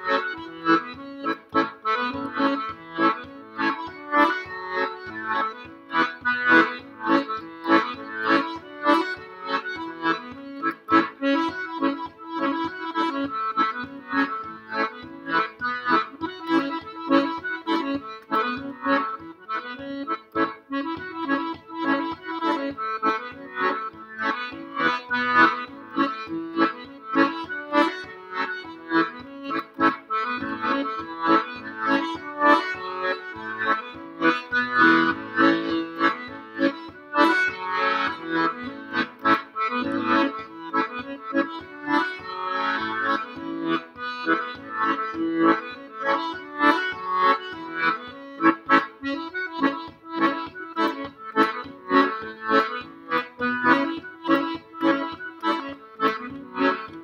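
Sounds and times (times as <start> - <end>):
accordion playing a reel: 0.0 - 57.0.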